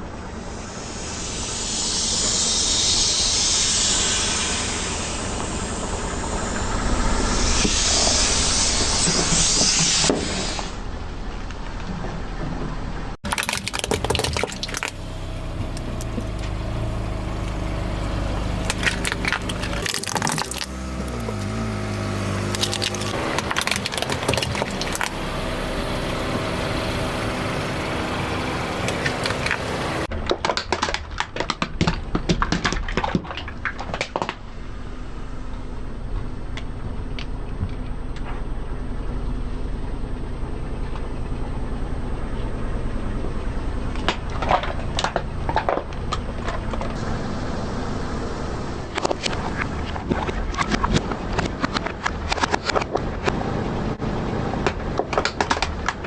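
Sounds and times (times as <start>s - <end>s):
car engine hum: 0.0s - 30.1s, 33.4s - 56.0s
tire crushing crunchy objects: 10.0s - 56.0s.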